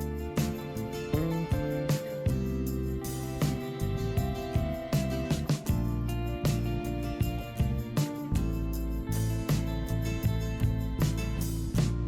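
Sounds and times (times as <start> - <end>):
gentle plucked guitar music: 0.0 - 12.0.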